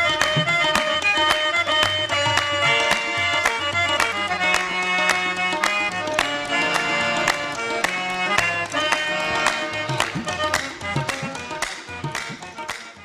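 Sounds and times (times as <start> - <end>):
held melodic notes: 0.0 - 13.0.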